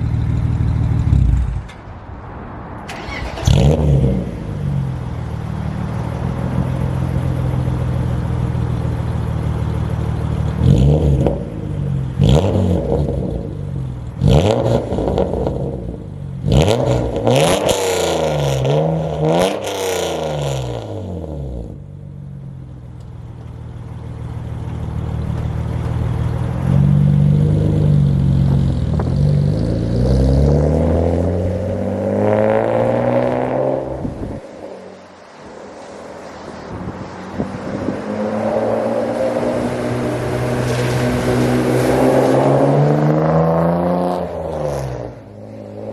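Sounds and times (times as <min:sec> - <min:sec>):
car engine revving: 0:02.8 - 0:21.8, 0:25.1 - 0:45.9.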